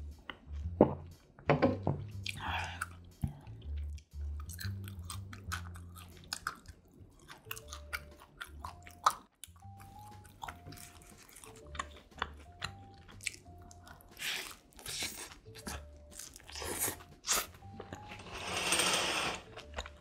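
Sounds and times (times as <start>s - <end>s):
person chewing crunchy pizza: 2.2s - 18.2s, 19.5s - 20.0s.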